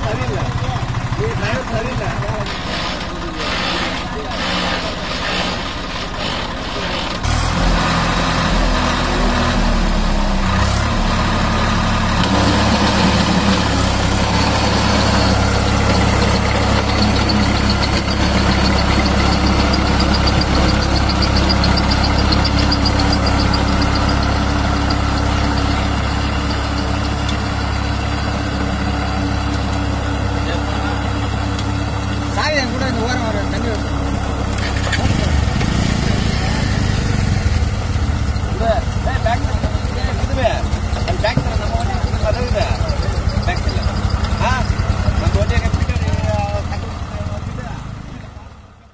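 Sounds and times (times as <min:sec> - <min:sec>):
tractor diesel engine revving: 0:00.0 - 0:48.9.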